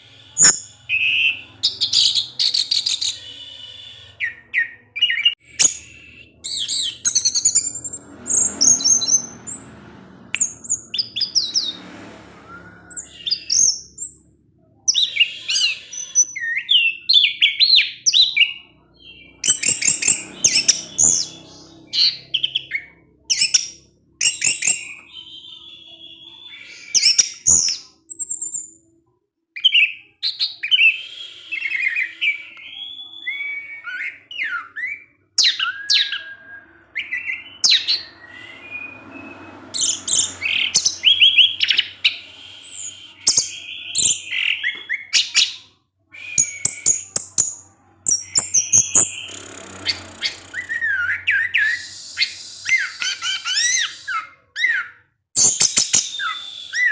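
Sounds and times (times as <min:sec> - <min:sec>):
bird singing chirps and whistles: 0:00.0 - 0:28.8, 0:29.6 - 0:56.9.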